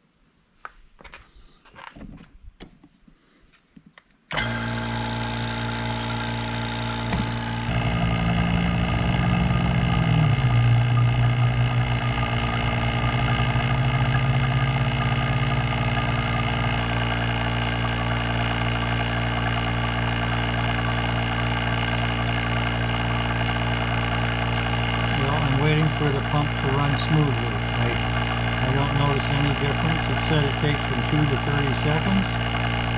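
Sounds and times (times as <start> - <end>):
vacuum pump humming: 4.3 - 32.9.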